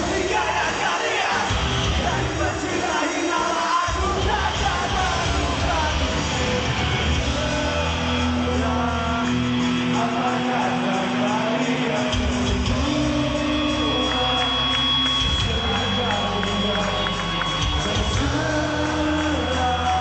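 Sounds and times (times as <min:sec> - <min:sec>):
person singing: 0:00.0 - 0:20.0
rock band playing live: 0:00.0 - 0:20.0.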